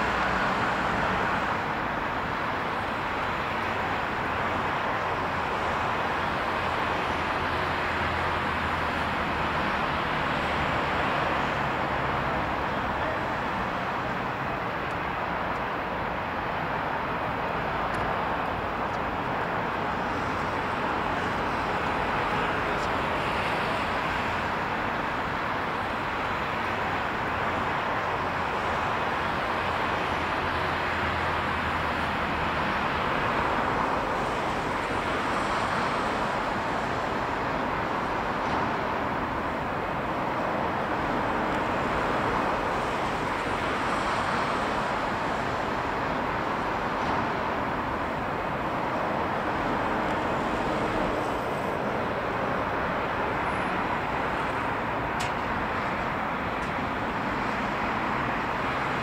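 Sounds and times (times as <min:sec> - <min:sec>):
distant jet engines: 0:00.0 - 0:59.0.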